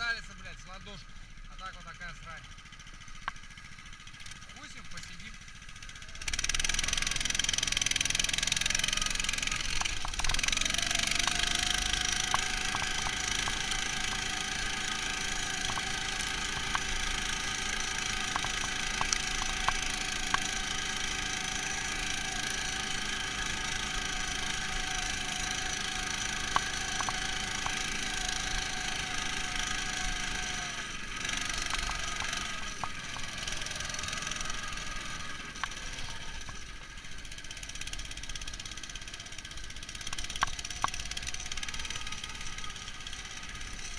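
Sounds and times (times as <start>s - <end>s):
muffled tractor engine running: 0.0s - 43.9s
sharp clicks and rattles: 1.6s - 43.9s.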